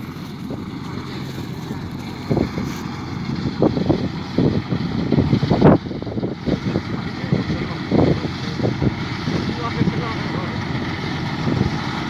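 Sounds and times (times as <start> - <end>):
tractor running: 0.0 - 12.0.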